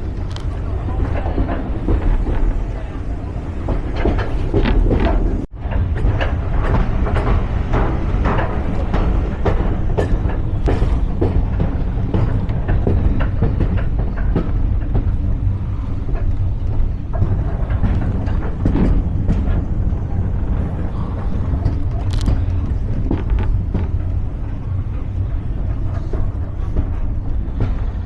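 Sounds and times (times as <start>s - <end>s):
train rumbling: 0.0s - 28.0s
wheels clicking over rail joints: 0.0s - 28.0s.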